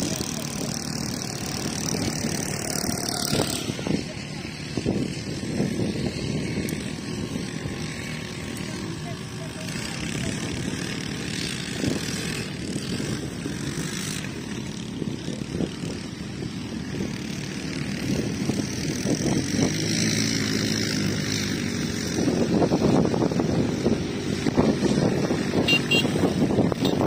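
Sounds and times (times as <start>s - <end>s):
quad bike engines droning: 0.0s - 27.0s
quad bike revving: 0.0s - 27.0s.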